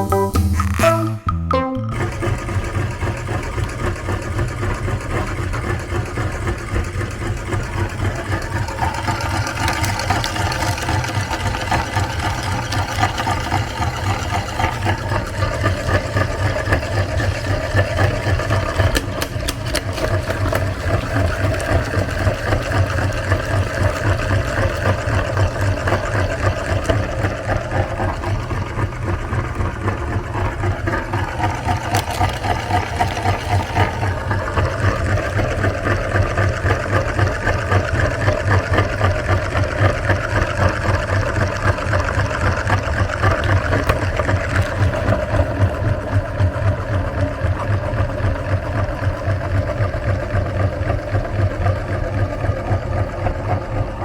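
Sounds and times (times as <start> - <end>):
meat grinder motor pulsing hum: 1.9 - 54.0.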